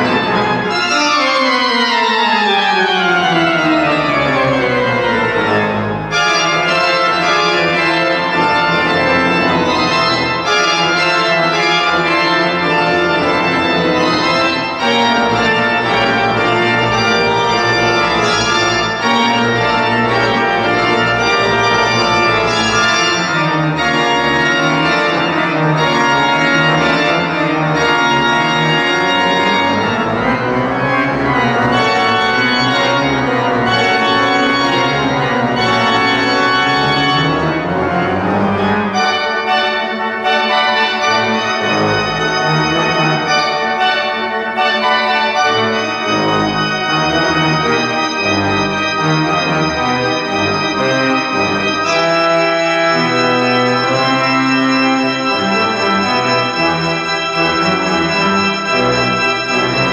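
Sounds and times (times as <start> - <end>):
pipe organ sustained chords: 0.0 - 59.9.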